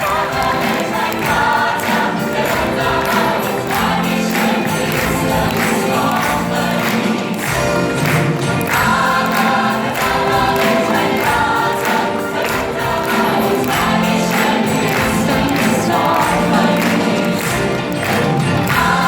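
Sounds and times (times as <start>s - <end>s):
live orchestra: 0.0s - 19.0s.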